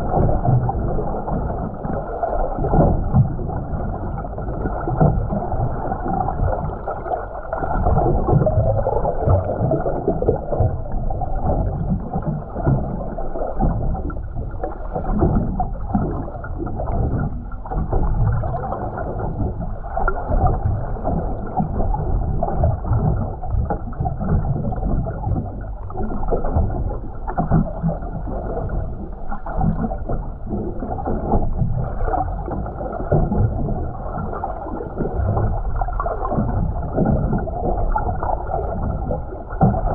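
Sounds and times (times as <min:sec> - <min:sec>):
muffled underwater rushing: 0:00.0 - 0:39.9.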